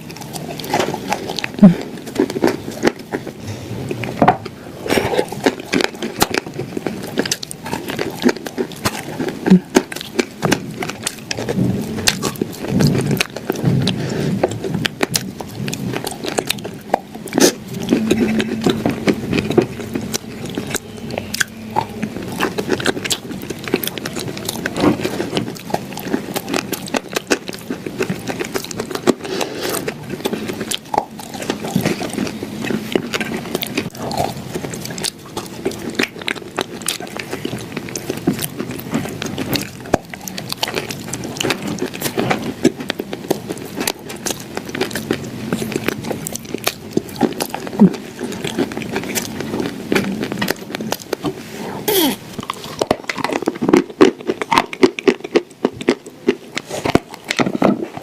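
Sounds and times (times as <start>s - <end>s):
crunchy cookie chewing: 0.0s - 58.0s.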